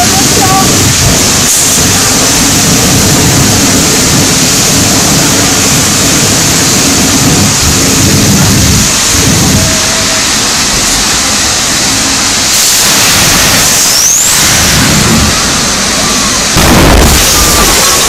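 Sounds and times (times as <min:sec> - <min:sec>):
fire rushing and crackling: 0:00.0 - 0:18.0.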